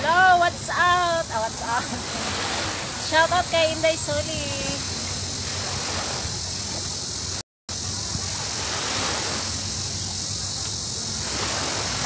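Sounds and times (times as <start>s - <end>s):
sea at the shore: 0.0s - 12.0s
wind on microphone: 0.0s - 12.0s.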